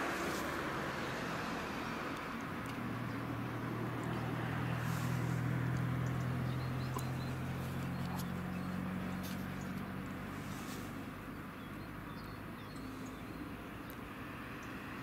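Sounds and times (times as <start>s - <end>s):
diesel engines droning: 0.0s - 15.0s.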